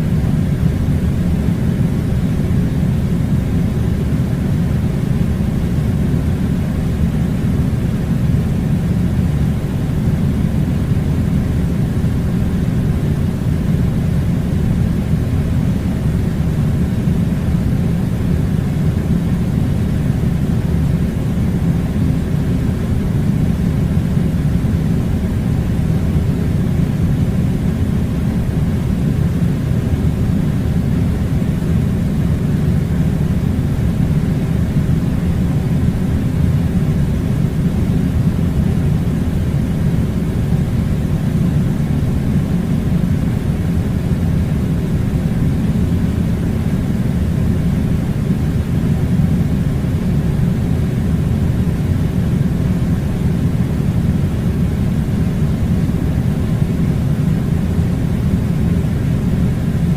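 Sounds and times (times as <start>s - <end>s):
air conditioning unit rumbling: 0.0s - 59.9s.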